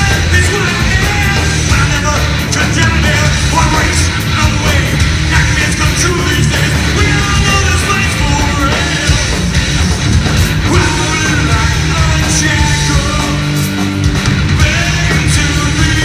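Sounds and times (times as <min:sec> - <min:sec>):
person singing: 0:00.0 - 0:09.5, 0:10.6 - 0:13.8, 0:14.5 - 0:16.0
bass guitar: 0:00.0 - 0:16.0
distorted electric guitars: 0:00.0 - 0:16.0
drums: 0:00.0 - 0:16.0.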